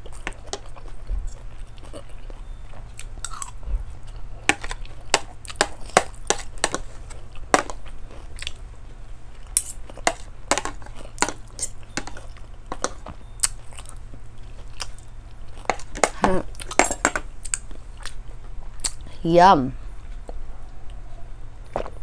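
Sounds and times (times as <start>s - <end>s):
chewing and mouth smacks: 0.0s - 8.7s, 9.3s - 19.1s.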